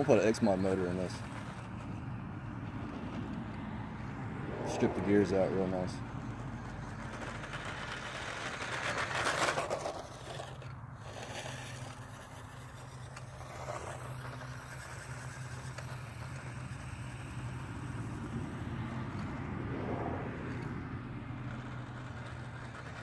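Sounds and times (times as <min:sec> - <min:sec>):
toy truck motor and tyres rushing: 0:00.0 - 0:23.0.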